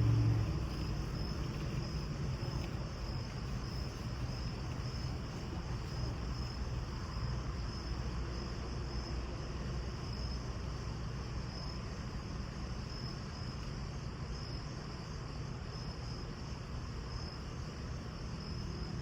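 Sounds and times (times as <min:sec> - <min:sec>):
cricket chirping: 0:00.0 - 0:19.0
steady low hum: 0:00.0 - 0:19.0.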